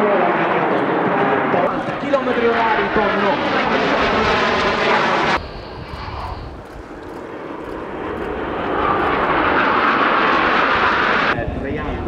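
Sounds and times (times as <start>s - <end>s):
jet engines roaring overhead: 0.0s - 12.0s.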